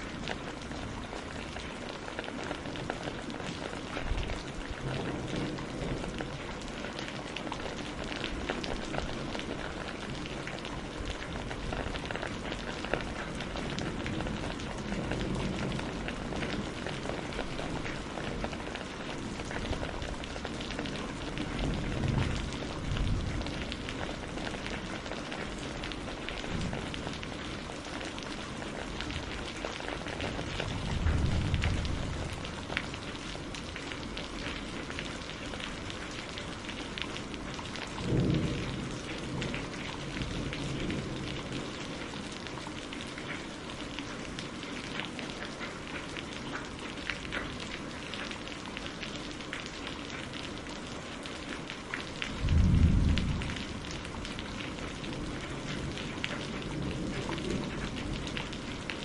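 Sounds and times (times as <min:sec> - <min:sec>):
rain pattering on a greenhouse: 0:00.0 - 0:59.0.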